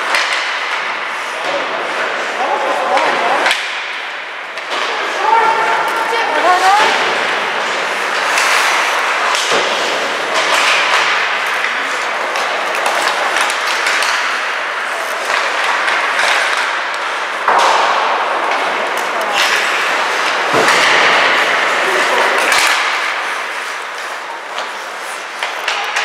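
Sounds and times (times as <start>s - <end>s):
hockey sticks and puck clacking: 0.0s - 26.0s
skates scraping ice: 0.0s - 26.0s.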